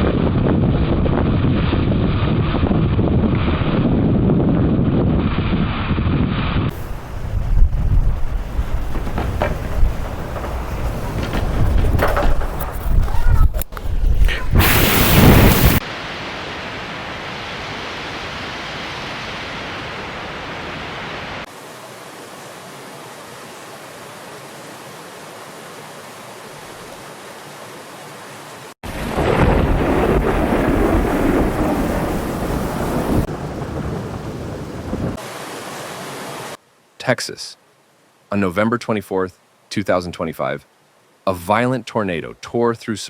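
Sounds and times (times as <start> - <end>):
rain and wind rushing: 0.0 - 37.0.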